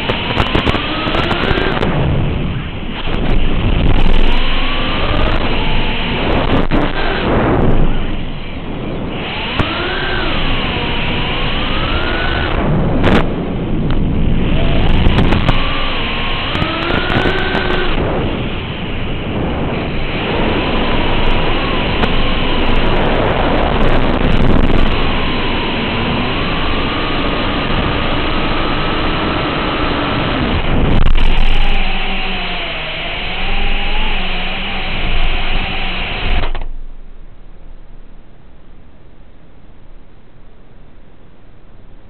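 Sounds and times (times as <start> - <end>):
quadcopter motors whining: 0.0 - 36.7
rushing noise: 0.0 - 40.0.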